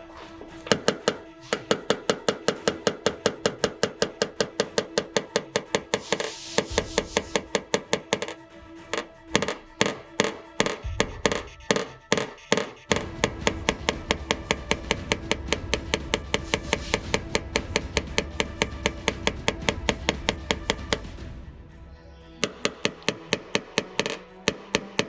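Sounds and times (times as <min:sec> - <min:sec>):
rapid light tapping: 0:00.0 - 0:21.2, 0:22.4 - 0:25.0.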